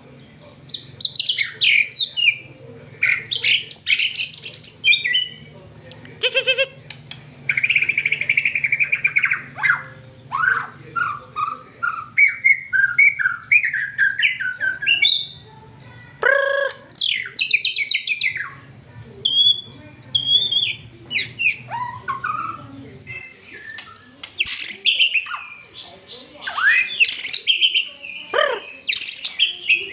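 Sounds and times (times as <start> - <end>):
bird singing: 0.0 - 29.9.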